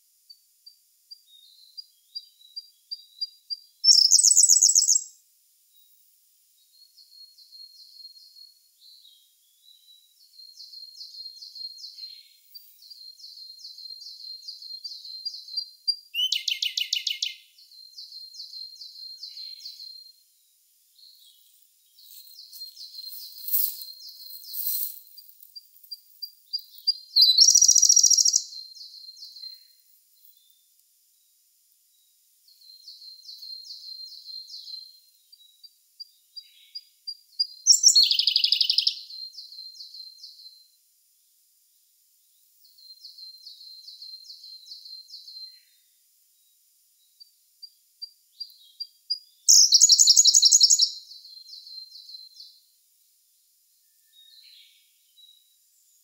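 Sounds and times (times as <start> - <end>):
bird song with rapid trill: 0.0 - 30.8, 31.9 - 40.8, 42.3 - 52.8, 53.8 - 56.0.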